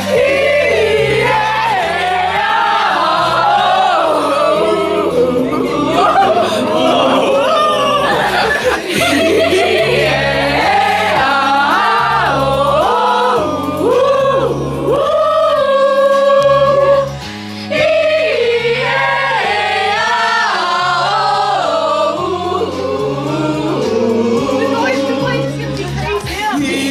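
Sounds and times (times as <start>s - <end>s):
bass line accompaniment: 0.0s - 26.9s
group of voices singing: 0.0s - 26.9s.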